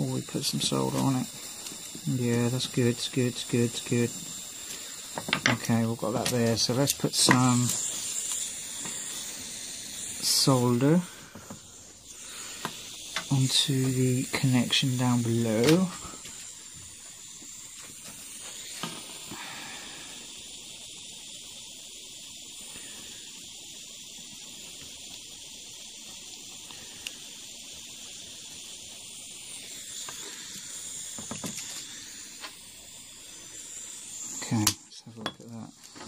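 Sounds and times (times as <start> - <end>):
steady high hiss: 0.0 - 36.0.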